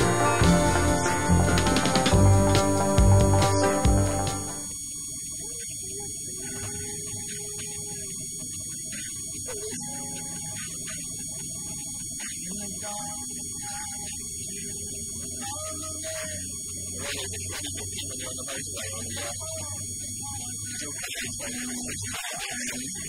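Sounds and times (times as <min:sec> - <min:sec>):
high whine: 0:00.0 - 0:21.0
electrical hum: 0:00.0 - 0:23.0.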